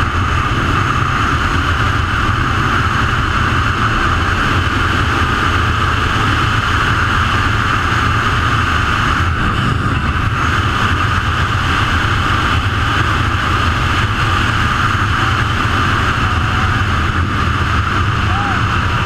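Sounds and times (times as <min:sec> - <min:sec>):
atv engine running: 0:00.0 - 0:19.0
wind and road noise: 0:00.0 - 0:19.0.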